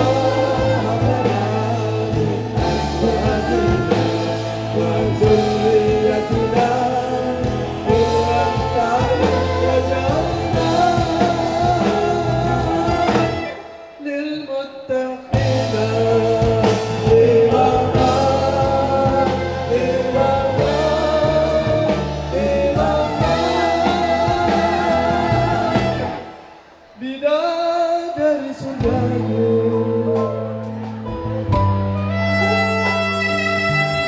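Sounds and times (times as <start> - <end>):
man and woman singing duet: 0.0 - 30.8
live band playing: 0.0 - 34.0.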